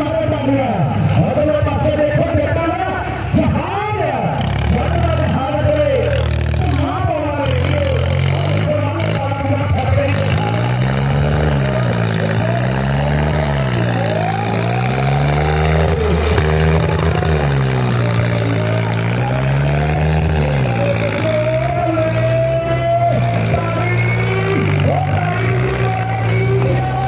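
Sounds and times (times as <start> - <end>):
tractor engine revving: 0.0 - 27.0.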